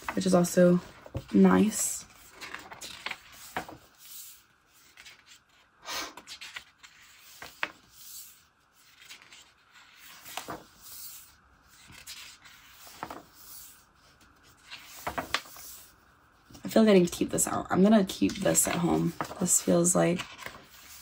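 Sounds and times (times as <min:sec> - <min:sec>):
book pages turning: 0:00.0 - 0:16.0, 0:18.1 - 0:21.0.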